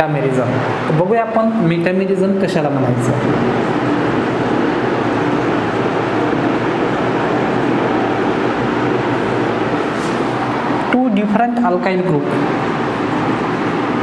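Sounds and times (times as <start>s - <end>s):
mechanical background hum: 0.0s - 14.0s.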